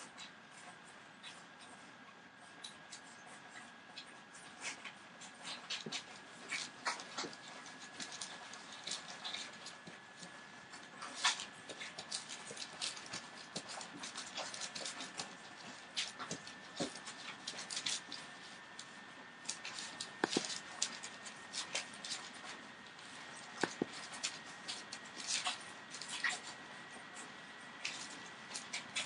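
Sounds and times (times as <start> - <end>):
puppies rustling and scratching: 0.0 - 29.0.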